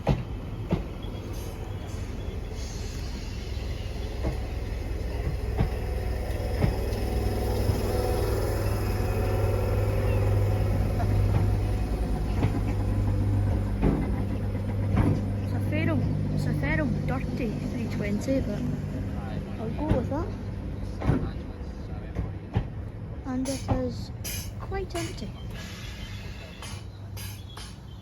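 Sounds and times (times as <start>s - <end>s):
electric train running in: 0.0s - 27.8s.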